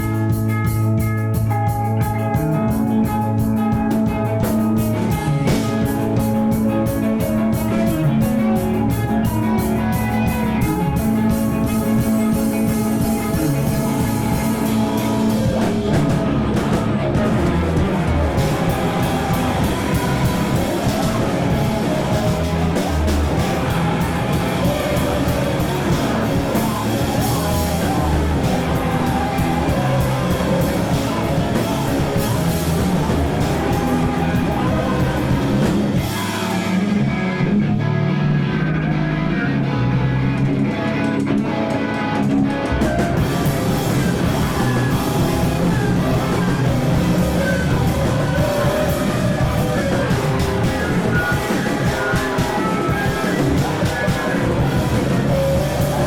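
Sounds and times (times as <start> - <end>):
rock band playing live: 0.0 - 56.0
person singing: 2.2 - 40.0, 40.7 - 56.0.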